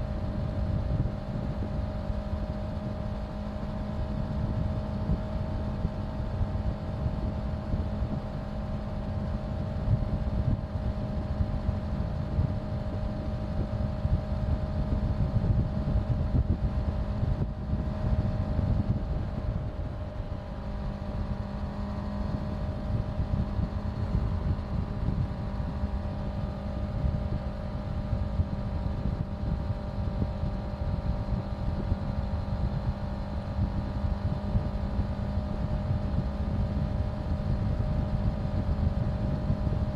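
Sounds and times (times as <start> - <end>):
low wind rumble on microphone: 0.0 - 39.9.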